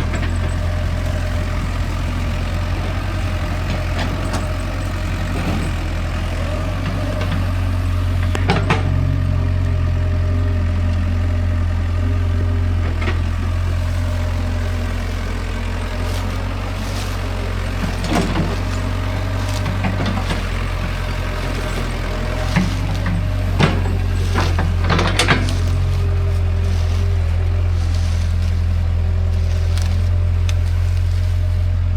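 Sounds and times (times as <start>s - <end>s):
heavy engine running: 0.0s - 31.9s.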